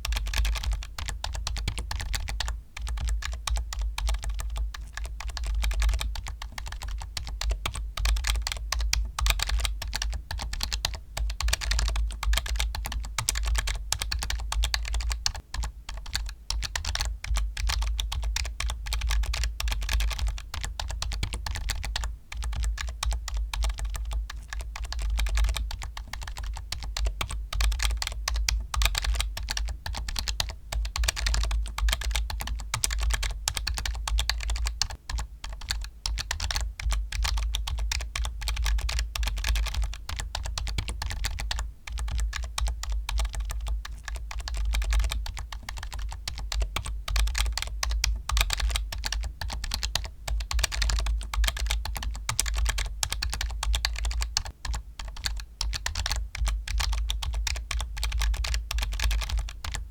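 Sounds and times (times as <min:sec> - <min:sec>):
fast typing on keyboard: 0:00.0 - 0:59.9.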